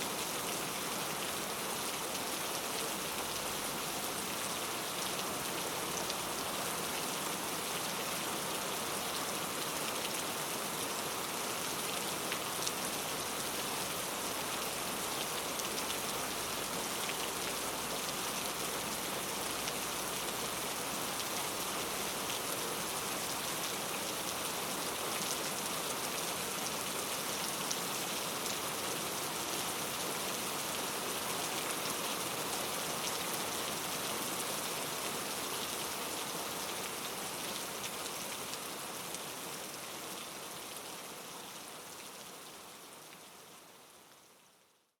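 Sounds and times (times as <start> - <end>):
steady rain hiss: 0.0 - 45.0.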